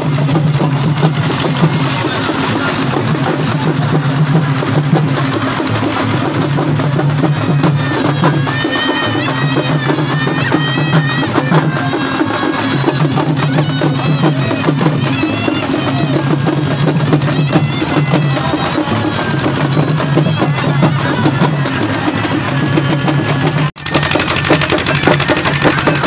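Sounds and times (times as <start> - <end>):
crowd noise: 0.0 - 26.0
shrill reed pipe melody: 0.0 - 26.0
steady drumming: 0.0 - 26.0.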